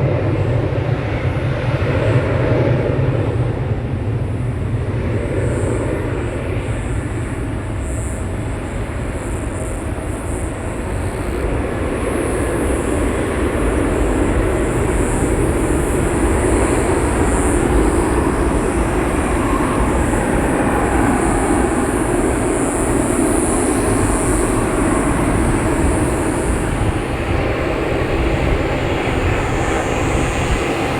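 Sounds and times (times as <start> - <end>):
jet engines at takeoff power: 0.0 - 30.9.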